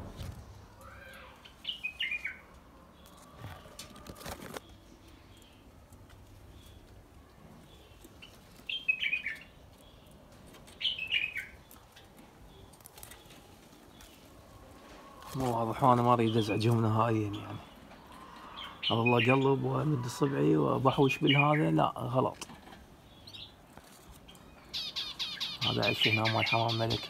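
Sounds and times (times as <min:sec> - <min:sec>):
cage birds chirping: 0:00.0 - 0:27.0.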